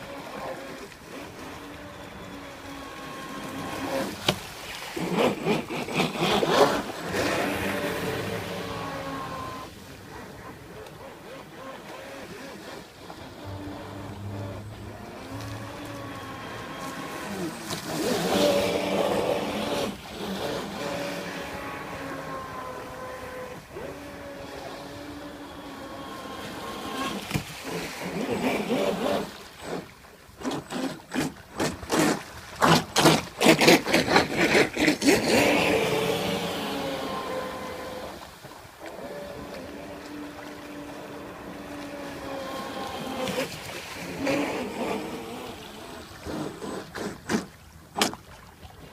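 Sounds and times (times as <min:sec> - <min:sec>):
model boat motor whine: 0:00.0 - 0:48.9.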